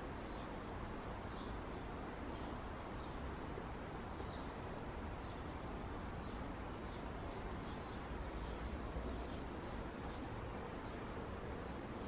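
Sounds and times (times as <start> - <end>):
background hiss and rumble: 0.0 - 12.0
distant songbirds chirping: 0.0 - 12.0.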